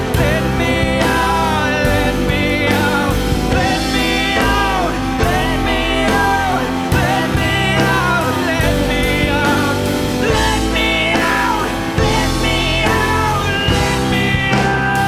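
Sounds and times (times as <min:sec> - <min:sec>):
live band music: 0:00.0 - 0:15.0
man singing: 0:00.0 - 0:15.0.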